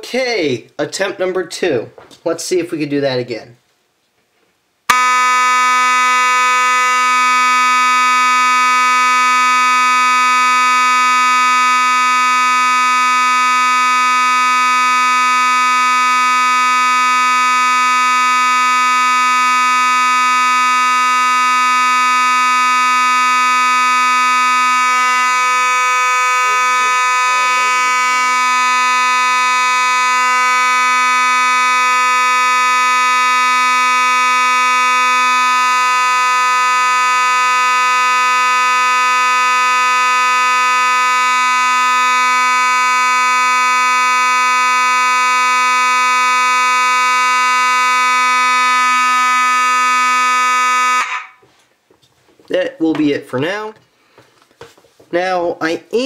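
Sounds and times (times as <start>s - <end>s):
fire alarm horn buzzing: 4.9s - 51.4s.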